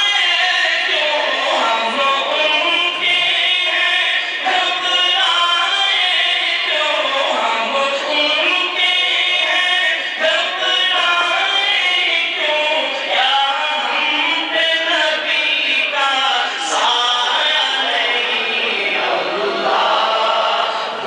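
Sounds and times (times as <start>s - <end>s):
man chanting devotional poem: 0.0s - 19.7s.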